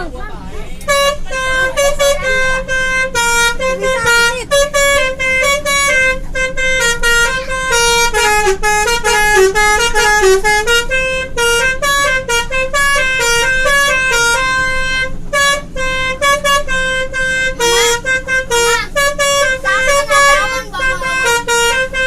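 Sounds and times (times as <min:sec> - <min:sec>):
multi-tone bus horn tune: 0:00.4 - 0:22.0.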